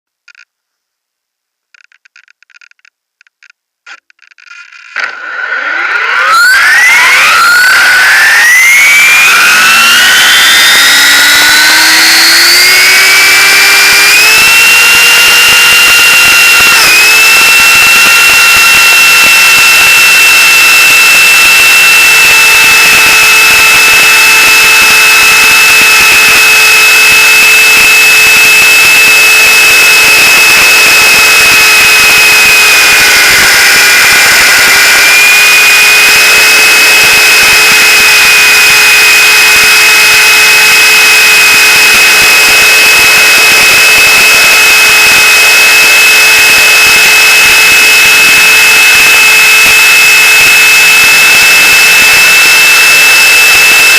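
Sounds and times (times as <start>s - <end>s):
rc helicopter motor whine: 4.5s - 53.9s.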